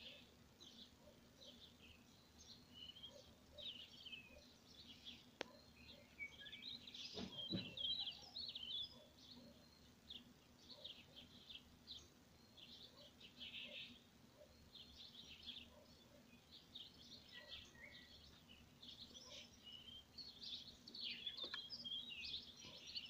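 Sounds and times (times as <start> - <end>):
faint steady low hum: 0.0 - 23.0
small songbirds chirping: 0.0 - 23.0.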